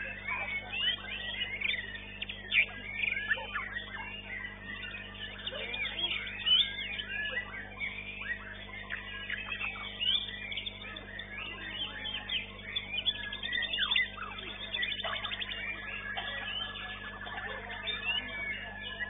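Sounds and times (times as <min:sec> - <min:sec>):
bird singing whistles and trills: 0:00.0 - 0:19.0
low electrical hum: 0:00.0 - 0:19.0.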